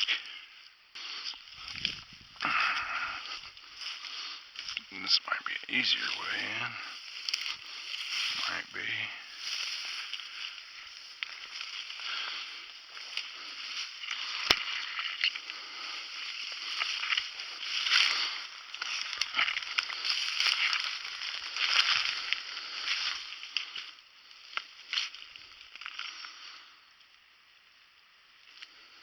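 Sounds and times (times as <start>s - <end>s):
footsteps crunching through leaves: 1.0s - 26.6s.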